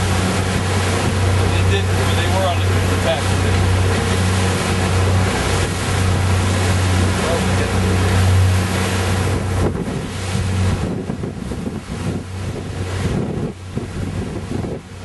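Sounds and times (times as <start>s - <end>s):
boat engine humming: 0.0s - 15.0s
rushing water: 0.0s - 15.0s
wind buffeting microphone: 0.0s - 15.0s.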